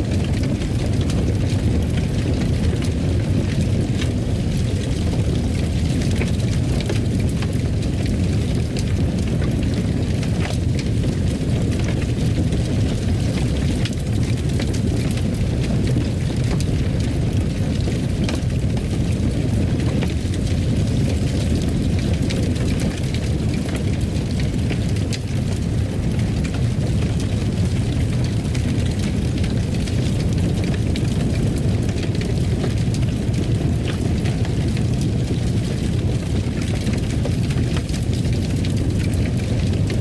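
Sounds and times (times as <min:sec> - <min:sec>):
fire crackling and popping: 0:00.0 - 0:40.0
fire rumbling: 0:00.0 - 0:40.0.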